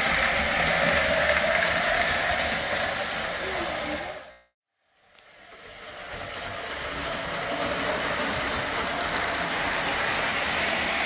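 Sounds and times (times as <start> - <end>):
train rolling on track: 0.0 - 4.4, 5.1 - 11.0.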